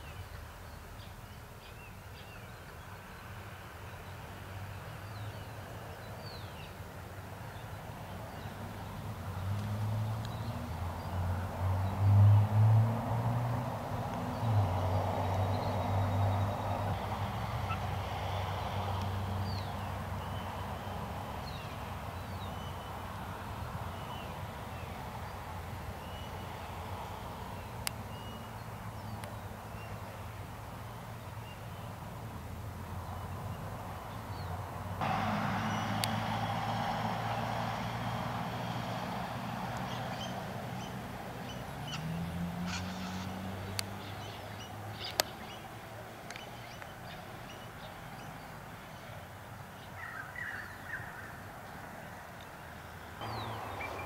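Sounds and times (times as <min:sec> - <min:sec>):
broad rush of noise: 0:00.0 - 0:54.0.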